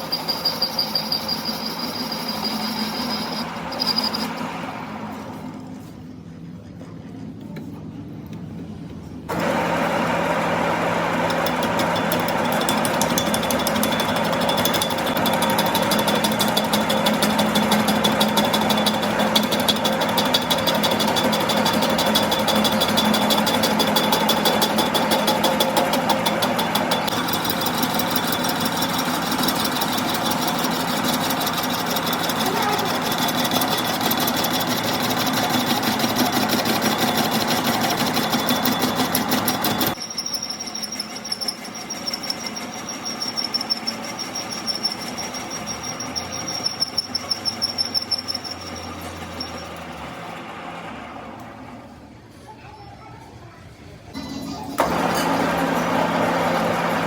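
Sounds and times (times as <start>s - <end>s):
workshop machine chattering: 0.0s - 4.9s, 9.3s - 52.0s, 54.1s - 57.0s.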